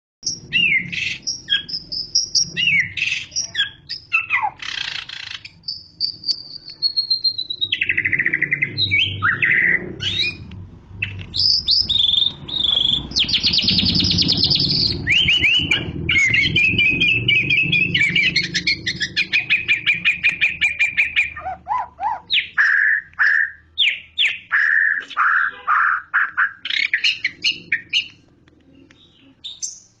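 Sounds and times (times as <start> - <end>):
bird singing whistled song: 0.2 - 28.2, 29.4 - 30.0.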